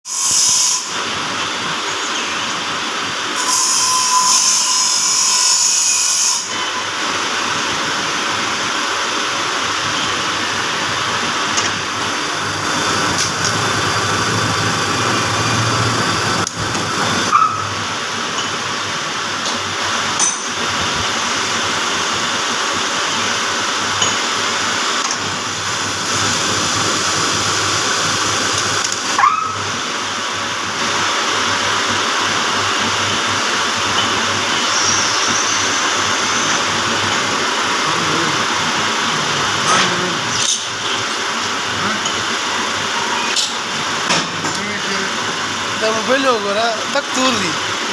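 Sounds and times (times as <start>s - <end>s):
metal lathe running: 0.1s - 47.9s.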